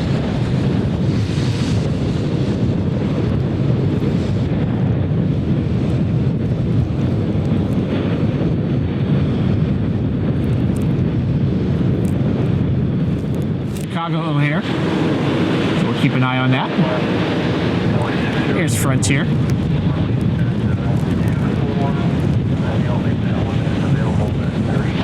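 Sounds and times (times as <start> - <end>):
jet engines at takeoff thrust: 0.0 - 25.0.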